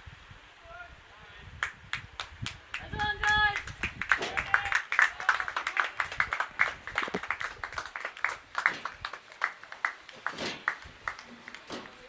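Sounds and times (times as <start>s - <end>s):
group hand clapping: 1.6s - 12.0s.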